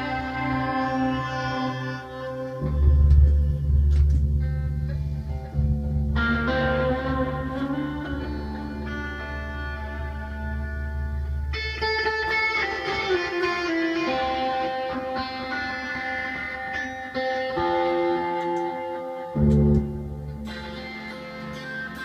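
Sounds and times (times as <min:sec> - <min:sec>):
guitar long held notes: 0:00.0 - 0:22.0.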